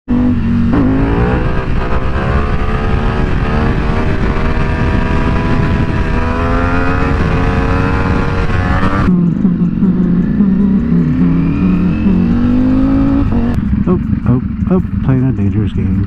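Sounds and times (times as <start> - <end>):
motorcycle engine accelerating: 0.1 - 16.0.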